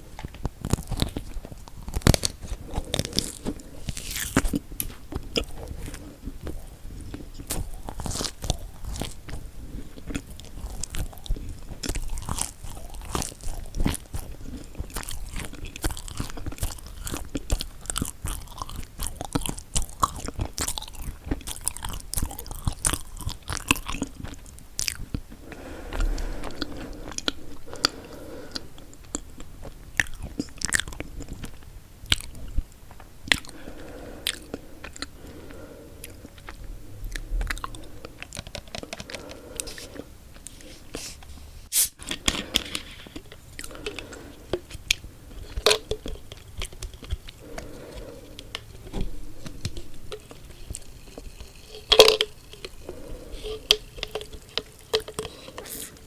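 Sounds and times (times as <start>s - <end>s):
biting and chewing cookies: 0.0s - 56.0s.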